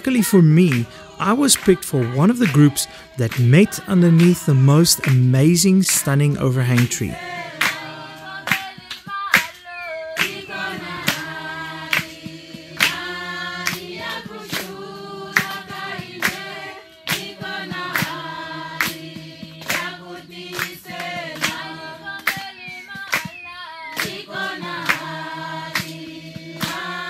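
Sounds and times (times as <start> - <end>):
group singing church song: 0.0 - 27.0
hands clapping on the beat: 0.0 - 27.0.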